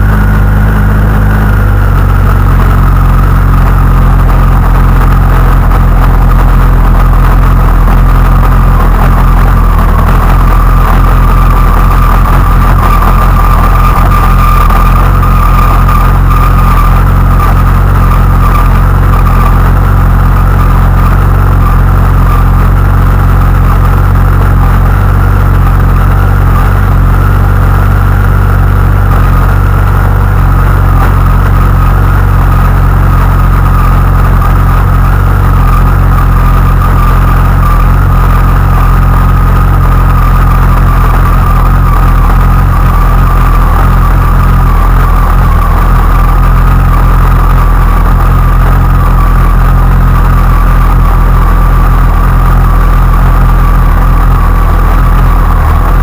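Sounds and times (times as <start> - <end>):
abnormal mechanical engine noise: 0.0 - 56.0
motorcycle engine idling: 0.0 - 56.0.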